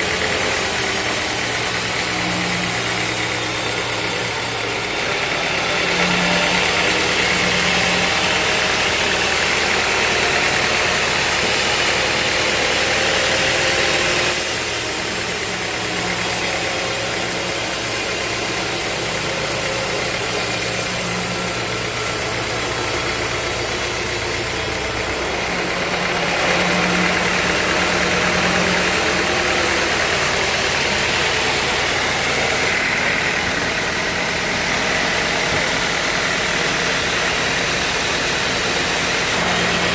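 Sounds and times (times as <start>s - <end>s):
broad hiss of saw: 0.0s - 39.9s
sawmill motor hum: 0.0s - 39.9s.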